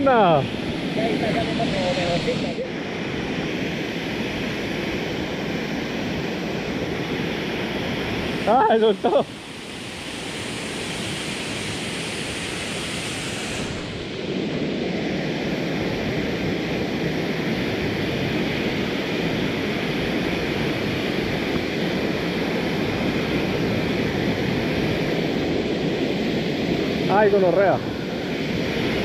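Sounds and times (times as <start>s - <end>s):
waterfall roaring: 0.0s - 14.6s, 15.4s - 29.0s.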